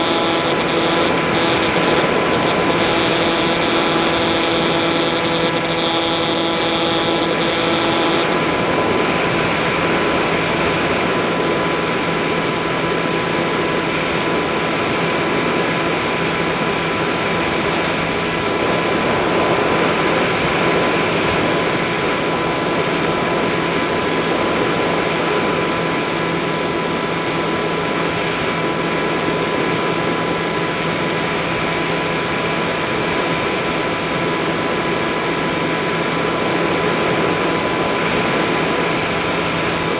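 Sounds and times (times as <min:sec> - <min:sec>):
electric motor and propeller hum: 0:00.0 - 0:39.9.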